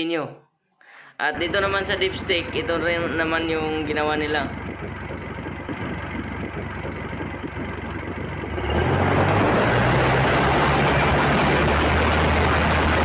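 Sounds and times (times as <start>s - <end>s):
diesel engine idling and revving: 1.4s - 13.0s.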